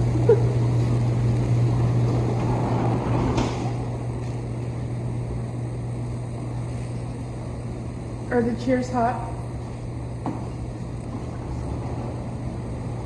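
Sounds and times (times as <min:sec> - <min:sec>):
hot tub pump and jets running: 0:00.0 - 0:13.0.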